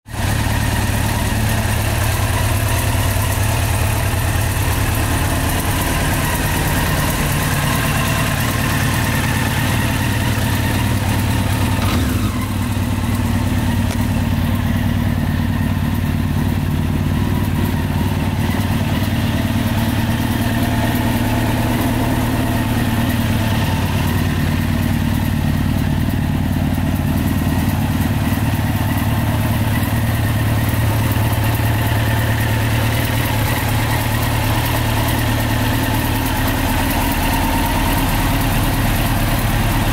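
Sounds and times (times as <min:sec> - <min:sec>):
motorcycle engine idling: 0:00.1 - 0:39.9.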